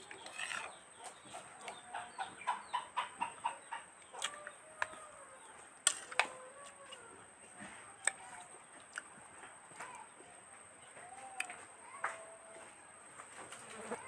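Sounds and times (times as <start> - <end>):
chicken clucking: 0.0 - 14.0.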